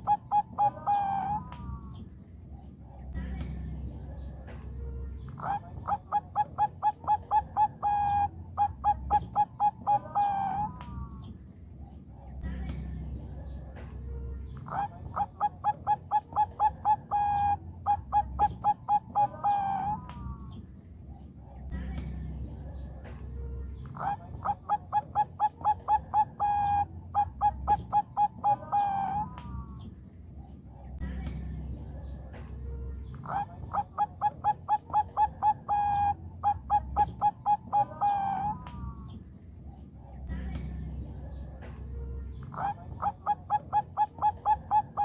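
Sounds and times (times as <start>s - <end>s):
zebra dove cooing: 0.0s - 45.0s.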